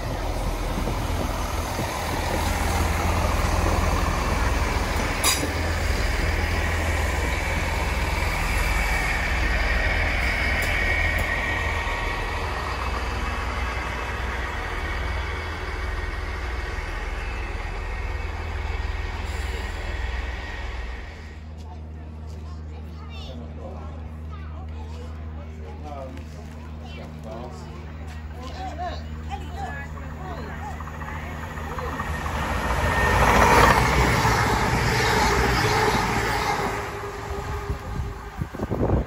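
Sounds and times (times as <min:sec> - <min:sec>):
diesel trains rumbling past: 0:00.0 - 0:39.0.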